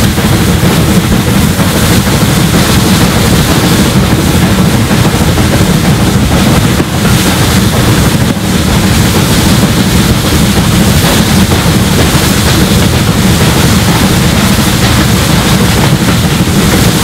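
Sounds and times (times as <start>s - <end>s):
steam locomotive exhaust beat: 0.0s - 17.0s.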